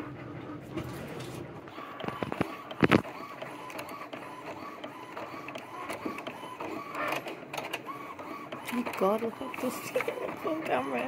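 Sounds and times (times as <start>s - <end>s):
printer carriage whirring: 0.0s - 11.0s.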